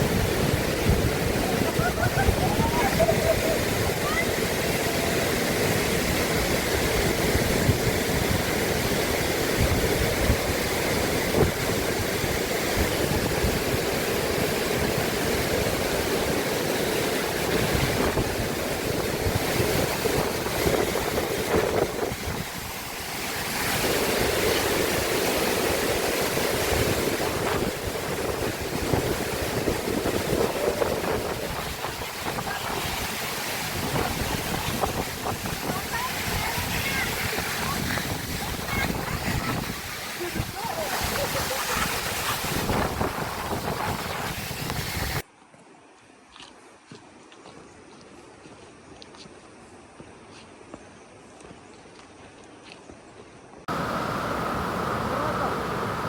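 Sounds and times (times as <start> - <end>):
waterfall roaring: 0.0 - 45.2, 53.7 - 56.0
wind rumbling on microphone: 0.0 - 45.2, 53.5 - 56.0.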